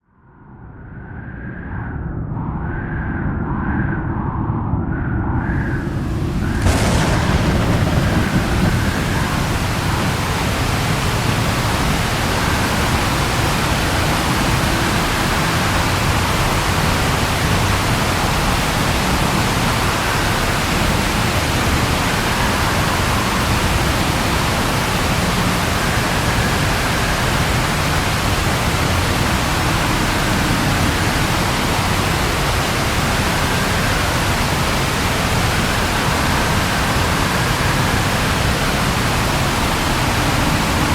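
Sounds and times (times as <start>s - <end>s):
low rumble of thunder: 4.2s - 40.9s
rain falling: 5.8s - 40.9s.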